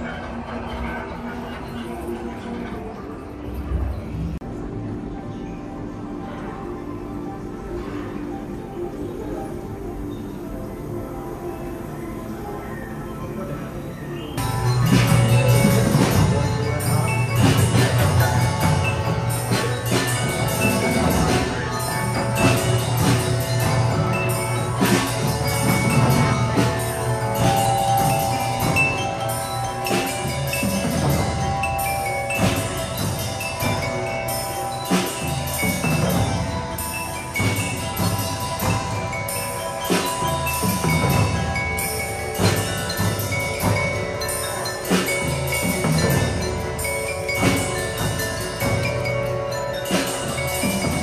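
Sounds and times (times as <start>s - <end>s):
bell-like mallet percussion: 0.0s - 51.0s.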